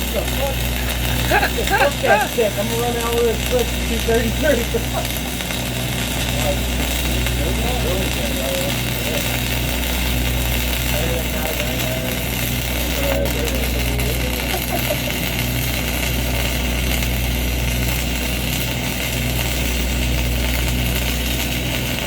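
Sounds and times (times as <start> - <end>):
engine running: 0.0 - 22.0
welding arc crackling and hissing: 0.0 - 22.0.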